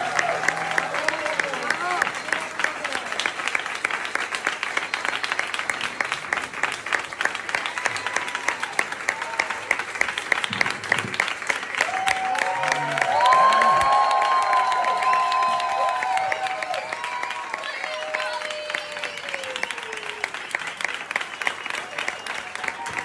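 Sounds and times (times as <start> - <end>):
audience applause: 0.0 - 23.0.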